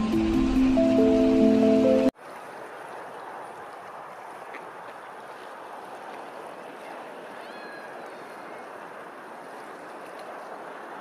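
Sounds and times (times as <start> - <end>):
rush of open water: 0.0 - 11.0.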